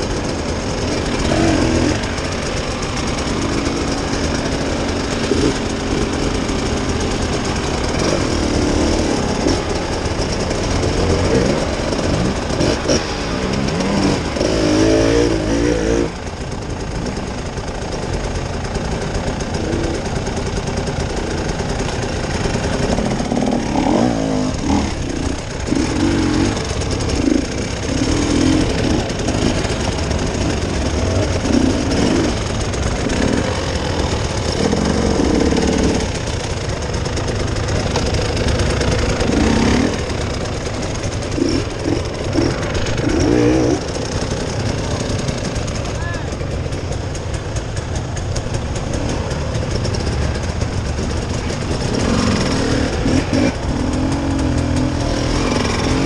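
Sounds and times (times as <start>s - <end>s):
vehicle engine running: 0.0s - 56.0s
vehicle juddering over rough ground: 0.0s - 56.0s.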